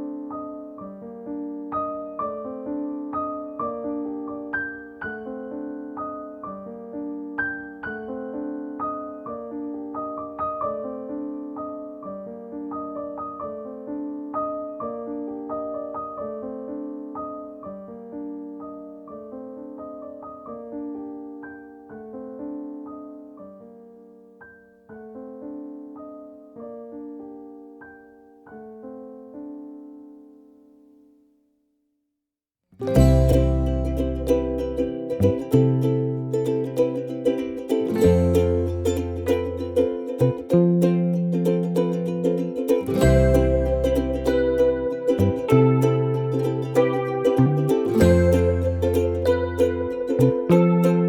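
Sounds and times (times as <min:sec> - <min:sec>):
gentle solo piano piece: 0:00.0 - 0:31.3, 0:32.8 - 0:51.0.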